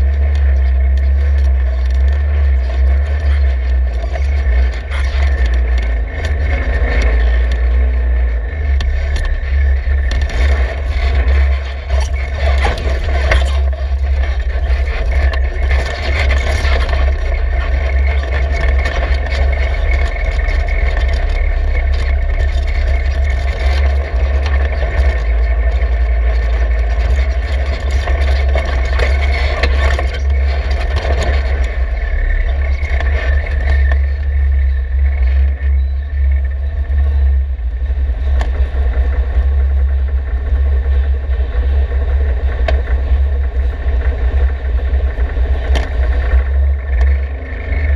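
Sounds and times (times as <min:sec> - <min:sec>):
heavy low rumble: 0:00.0 - 0:47.9
utility vehicle engine running: 0:00.0 - 0:47.9.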